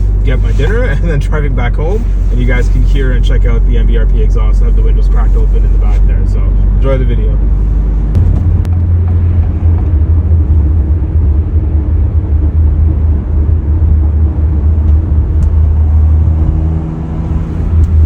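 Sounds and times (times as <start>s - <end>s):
car engine drone: 0.0s - 18.0s.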